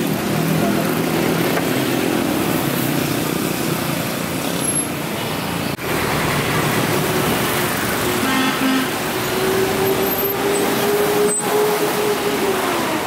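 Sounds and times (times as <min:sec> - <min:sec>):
motorcycles and cars passing: 0:00.0 - 0:13.0
tyres on asphalt: 0:00.0 - 0:13.0.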